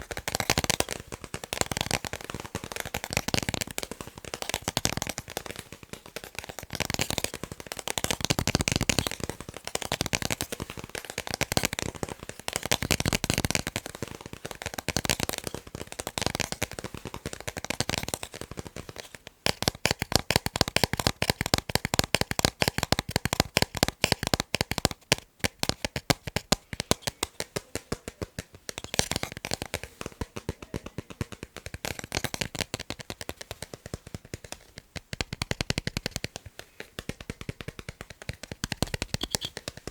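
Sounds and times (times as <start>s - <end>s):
rapid tapping on picture frames: 0.0s - 39.9s.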